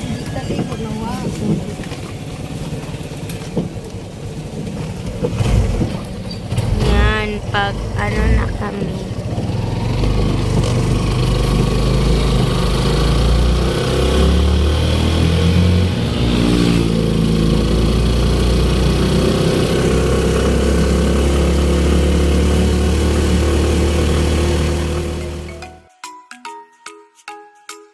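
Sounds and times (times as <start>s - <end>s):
vehicle engine running: 0.0s - 25.6s.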